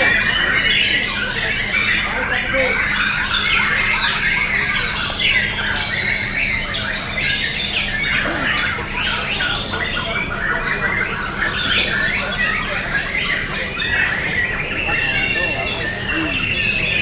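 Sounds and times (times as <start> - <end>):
other songbirds singing: 0.0 - 17.0
songbird singing whistles and chirps: 0.0 - 17.0.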